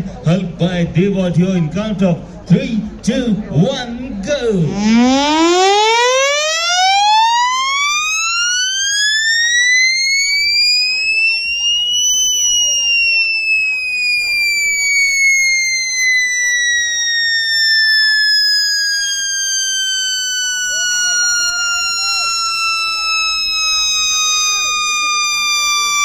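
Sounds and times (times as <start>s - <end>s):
loud siren-like tone: 4.6s - 26.0s.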